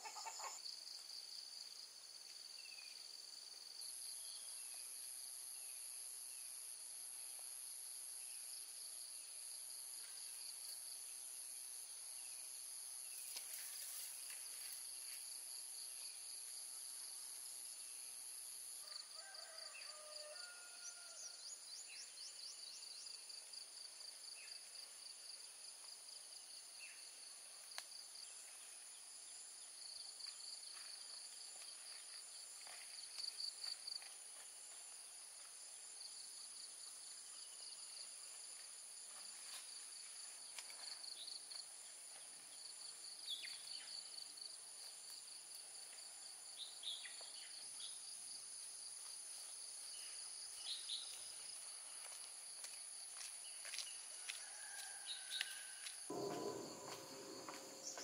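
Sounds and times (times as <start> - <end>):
insect chirps: 0.0 - 58.0.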